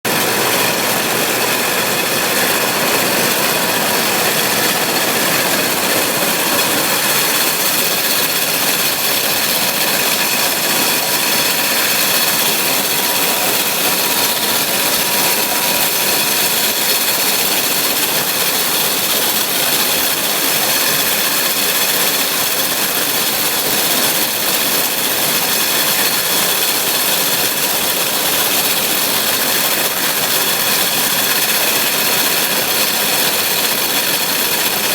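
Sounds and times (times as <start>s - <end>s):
tractor and baler running: 0.0s - 34.9s.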